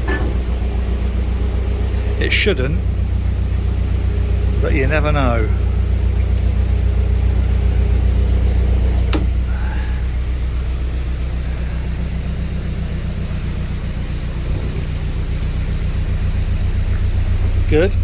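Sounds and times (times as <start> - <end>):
diesel boat engine running: 0.0 - 18.0.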